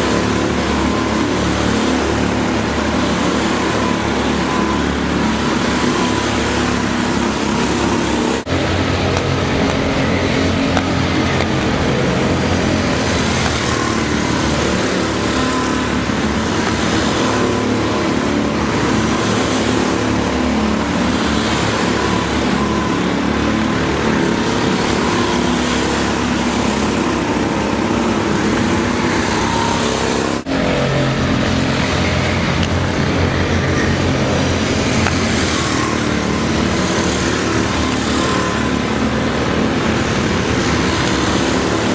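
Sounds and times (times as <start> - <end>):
go-kart engines droning: 0.0 - 41.9.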